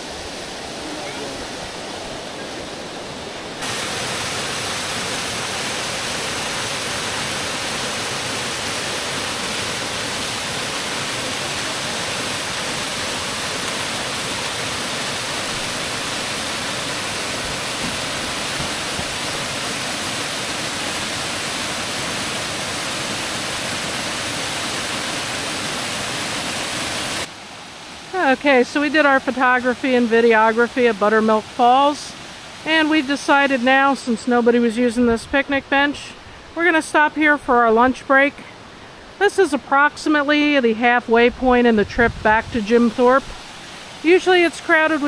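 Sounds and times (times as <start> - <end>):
waterfall rushing: 0.0 - 34.7, 42.7 - 45.0.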